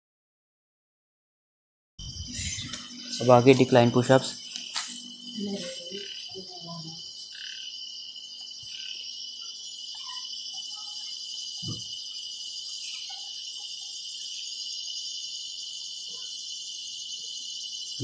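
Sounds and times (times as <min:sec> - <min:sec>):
crickets chirring: 0:02.0 - 0:18.0.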